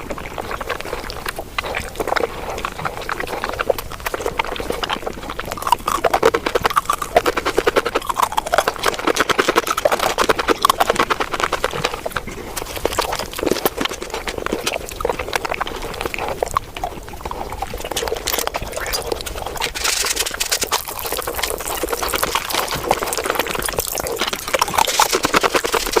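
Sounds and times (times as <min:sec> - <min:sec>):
rapid chewing and mouth sounds: 0:00.0 - 0:26.0.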